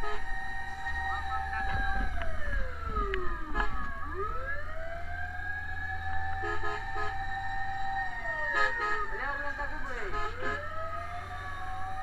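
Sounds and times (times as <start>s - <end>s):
fire truck siren wailing: 0.0s - 12.0s.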